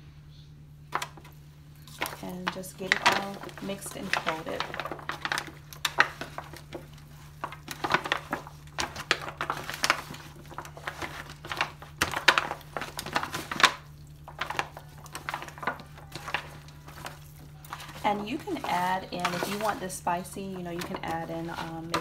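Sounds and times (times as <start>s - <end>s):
aluminium foil pan crinkling: 0.9s - 22.0s.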